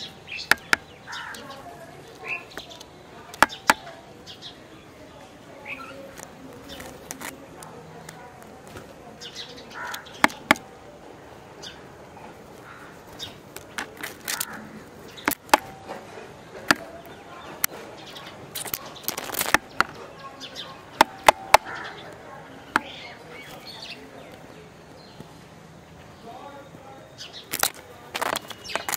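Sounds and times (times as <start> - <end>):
beaks tapping on concrete: 0.0 - 4.6, 5.6 - 10.9, 12.6 - 25.3, 26.7 - 28.9.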